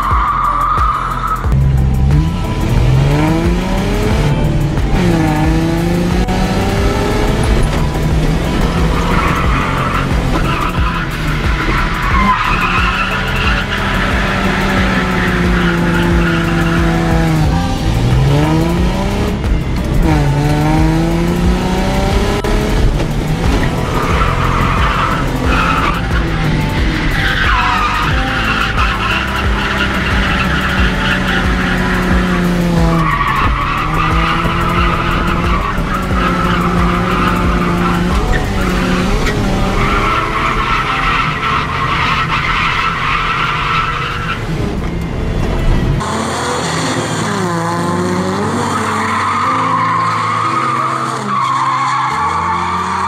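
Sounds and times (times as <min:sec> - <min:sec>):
car engine revving: 0:00.0 - 0:53.0
tyres squealing: 0:02.2 - 0:47.7, 0:48.3 - 0:53.0.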